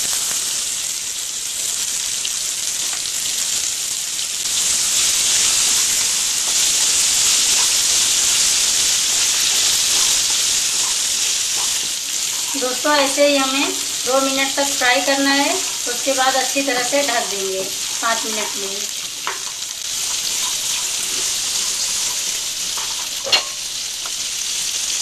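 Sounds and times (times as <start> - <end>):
peas sizzling in hot oil: 0.0 - 25.0.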